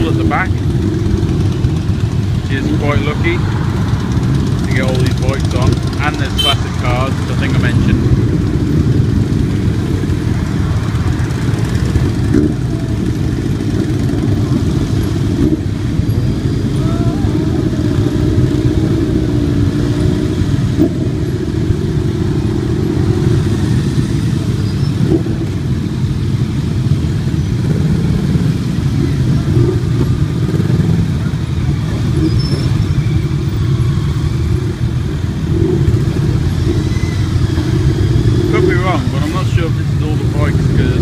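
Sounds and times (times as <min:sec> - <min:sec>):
motorcycle engines rumbling: 0:00.0 - 0:41.0.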